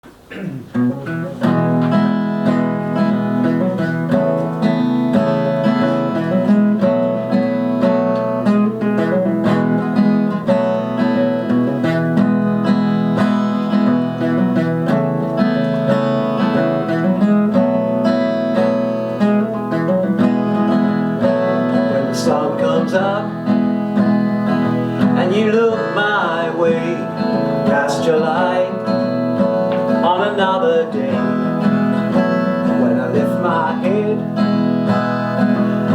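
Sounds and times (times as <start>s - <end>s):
acoustic guitar plucking: 0.0s - 35.9s.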